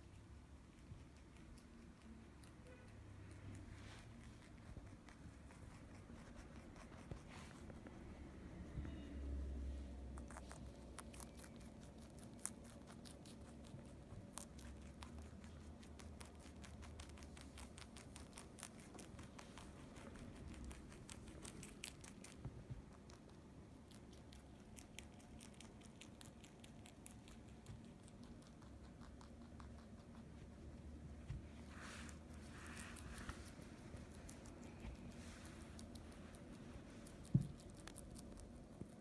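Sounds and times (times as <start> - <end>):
rabbit chewing crunchily: 0.0 - 8.6, 9.6 - 39.0.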